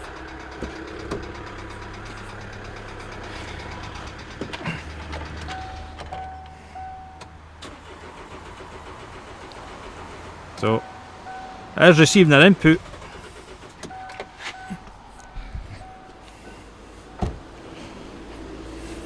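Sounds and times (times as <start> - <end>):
diesel engine knocking: 0.0 - 19.0.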